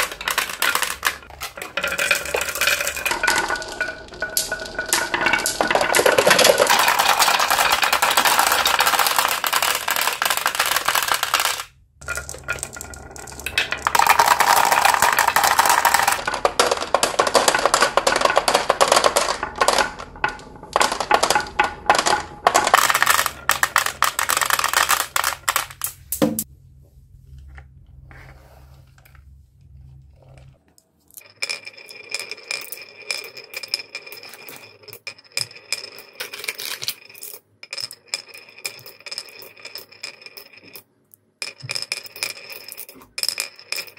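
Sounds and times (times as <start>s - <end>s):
glass marbles clattering on wood: 0.0s - 26.5s, 31.1s - 43.9s
marbles rolling on wooden track: 0.0s - 26.5s, 31.1s - 43.9s.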